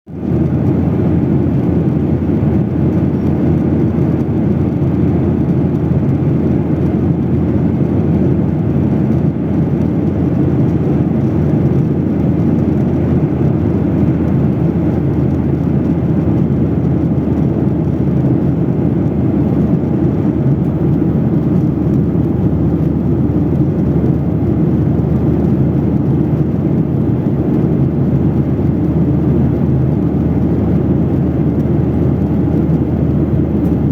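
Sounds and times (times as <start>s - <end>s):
jet engines rumbling: 0.1s - 33.9s.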